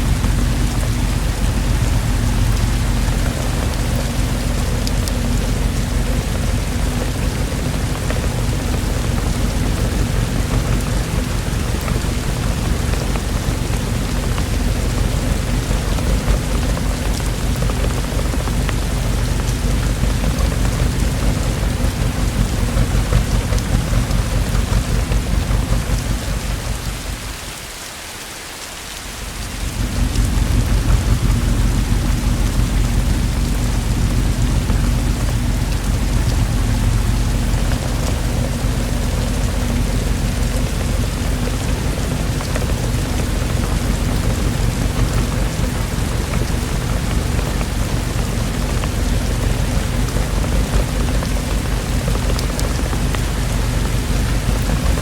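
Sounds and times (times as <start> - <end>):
deep rumble of thunder: 0.0 - 27.6, 29.2 - 55.0
steady rainfall: 0.0 - 55.0.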